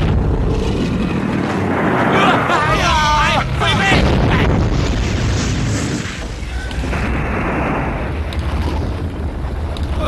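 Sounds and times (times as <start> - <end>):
deep rumbling explosion boom: 0.0 - 10.0.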